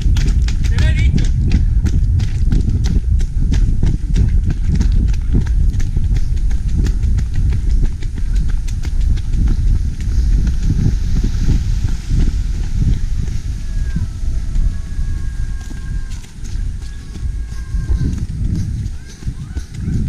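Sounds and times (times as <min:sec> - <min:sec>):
running footsteps on dirt trail: 0:00.0 - 0:20.0
wind rumbling on microphone: 0:00.0 - 0:20.0.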